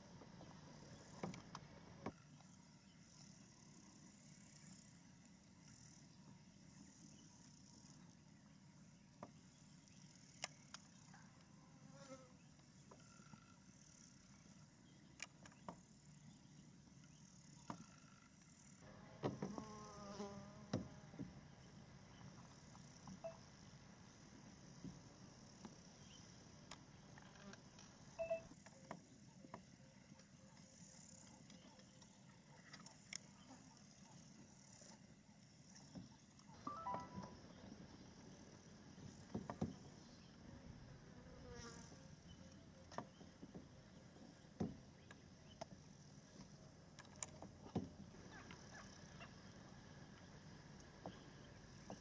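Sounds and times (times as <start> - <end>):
faint high-pitched insect noise: 0.0 - 52.0.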